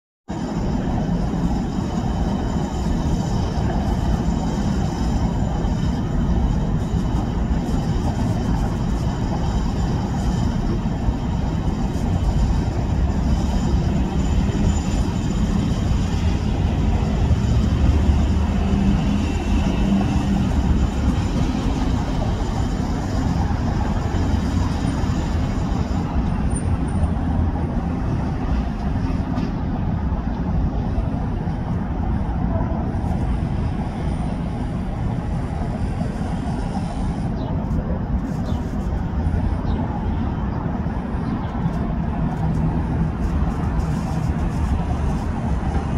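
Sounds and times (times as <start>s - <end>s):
traffic rumble: 0.3s - 45.9s.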